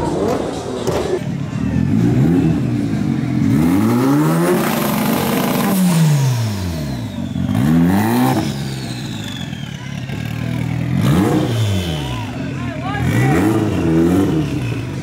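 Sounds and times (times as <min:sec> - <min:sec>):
car engine revving hard: 0:01.8 - 0:09.5, 0:10.1 - 0:15.0.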